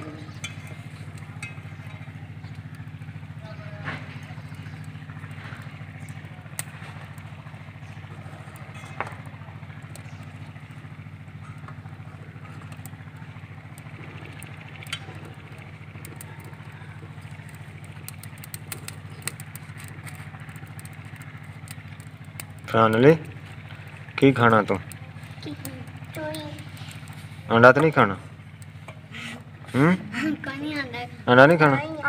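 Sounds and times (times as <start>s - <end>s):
engine humming: 0.0s - 32.0s
wood fire crackling: 0.0s - 32.0s.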